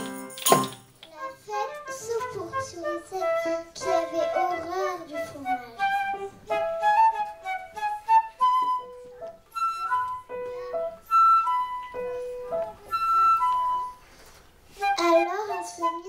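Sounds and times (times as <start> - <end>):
flute melody: 1.1 - 16.0.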